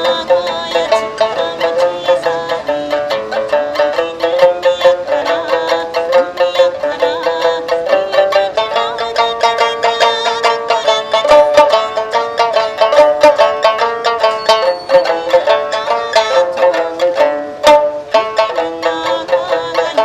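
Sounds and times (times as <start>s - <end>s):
three-stringed lute plucked notes: 0.0s - 20.0s.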